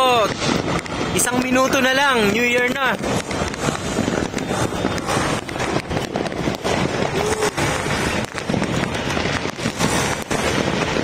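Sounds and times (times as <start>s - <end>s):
fireworks and firecrackers bangs: 0.0s - 11.0s.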